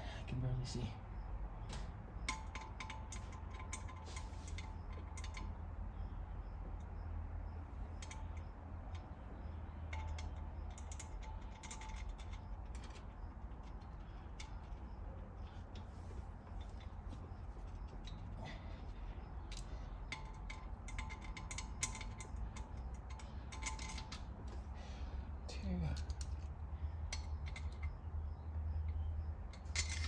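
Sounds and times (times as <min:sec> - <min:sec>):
low steady hum: 0:00.0 - 0:30.0
light metallic clicks of bolts: 0:01.6 - 0:05.7, 0:07.8 - 0:30.0.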